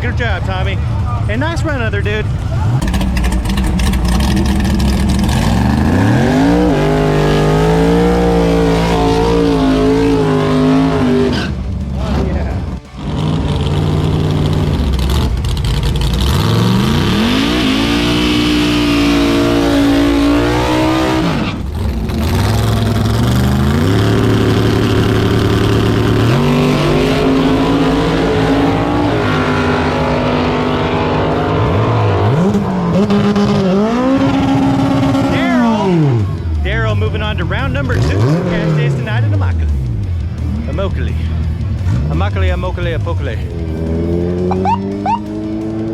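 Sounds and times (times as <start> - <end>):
drag racing car engine revving: 0.0 - 45.9.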